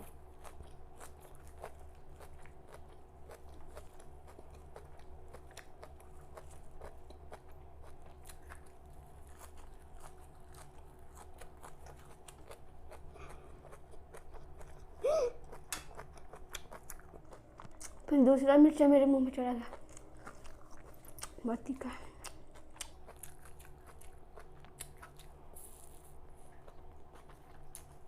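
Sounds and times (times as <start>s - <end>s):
chewing raw vegetables: 0.0s - 18.4s, 19.6s - 28.0s.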